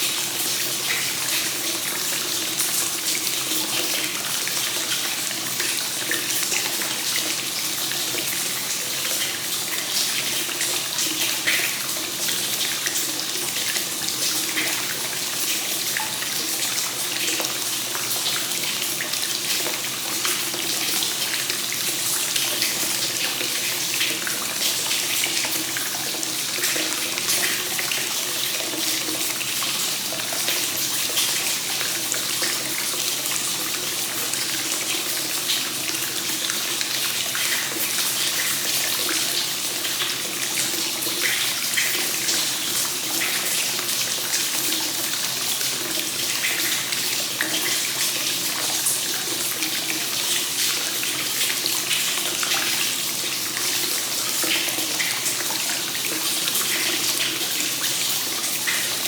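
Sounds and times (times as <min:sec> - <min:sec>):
water pouring into a bath: 0:00.0 - 0:59.0.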